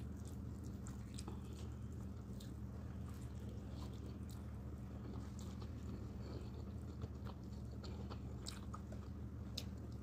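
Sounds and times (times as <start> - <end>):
person chewing: 0.0 - 10.0
steady low hum: 0.0 - 10.0.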